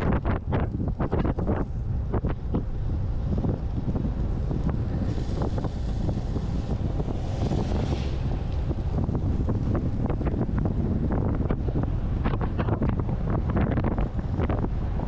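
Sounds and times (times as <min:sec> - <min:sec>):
low steady rumble: 0:00.0 - 0:15.0
wind buffeting microphone: 0:00.0 - 0:15.0.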